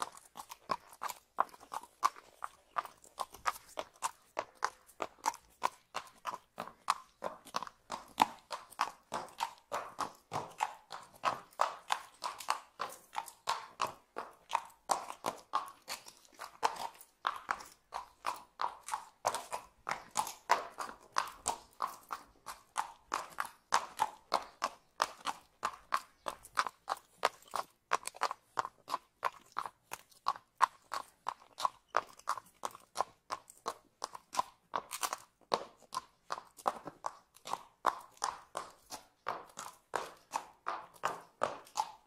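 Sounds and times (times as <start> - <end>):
horse hooves clip-clopping: 0.0 - 42.0.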